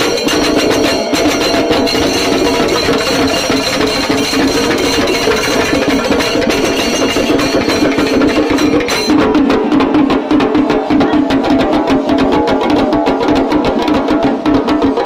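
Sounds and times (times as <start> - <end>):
hand cymbals clashing: 0.0 - 14.9
chenda drums beaten rapidly: 0.0 - 15.0.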